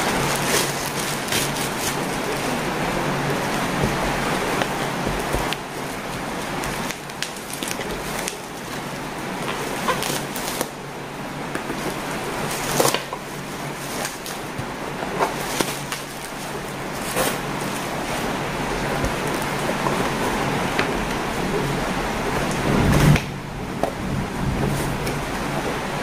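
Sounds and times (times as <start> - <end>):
bubble wrap crinkling and crackling: 0.0 - 26.0
heavy rain hissing: 0.0 - 26.0.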